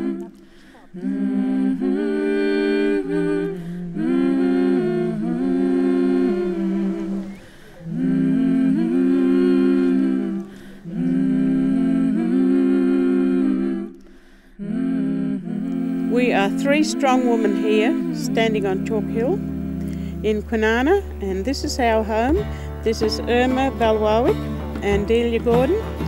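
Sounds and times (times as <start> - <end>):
voices humming in harmony: 0.0 - 26.0.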